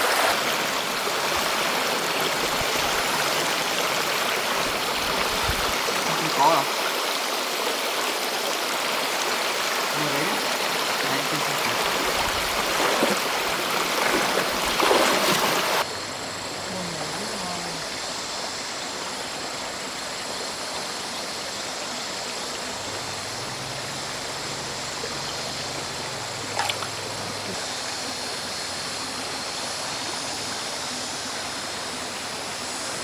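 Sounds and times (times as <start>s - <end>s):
stream water over rocks: 0.0s - 33.0s.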